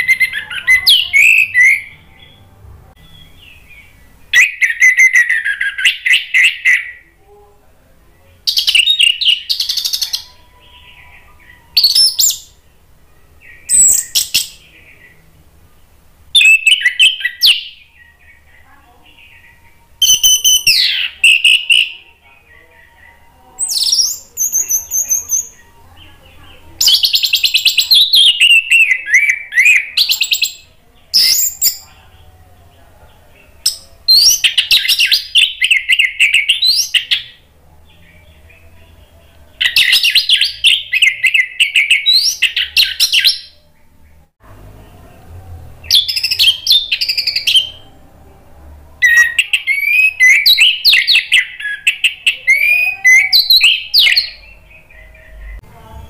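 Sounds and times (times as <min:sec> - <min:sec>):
thrush singing: 0:00.0 - 0:07.0, 0:08.2 - 0:56.0.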